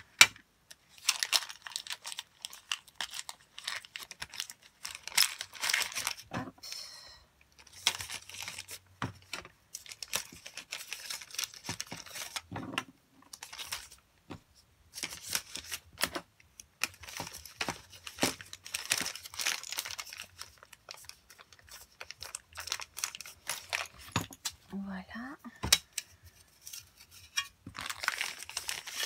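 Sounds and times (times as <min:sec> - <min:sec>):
packaging crinkling: 0:00.7 - 0:06.3, 0:07.6 - 0:12.5, 0:13.3 - 0:14.0, 0:14.9 - 0:24.5, 0:25.8 - 0:29.0.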